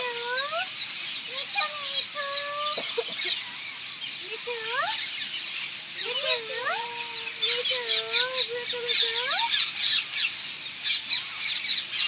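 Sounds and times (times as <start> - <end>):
parakeets screeching: 0.0 - 12.0.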